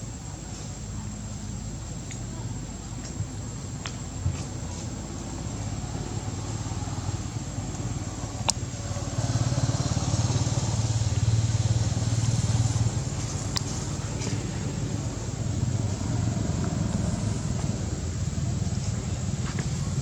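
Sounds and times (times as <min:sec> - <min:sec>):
engine running: 0:02.9 - 0:20.0.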